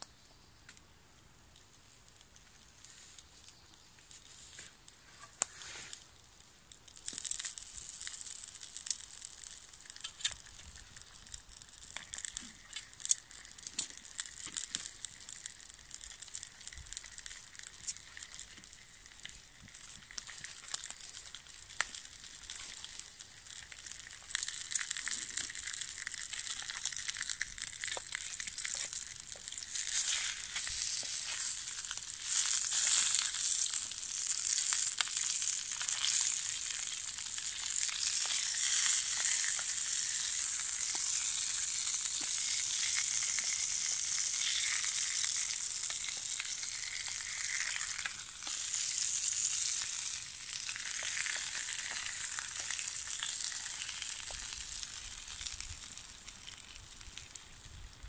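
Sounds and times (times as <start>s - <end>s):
meat sizzling in a frying pan: 5.4s - 58.0s.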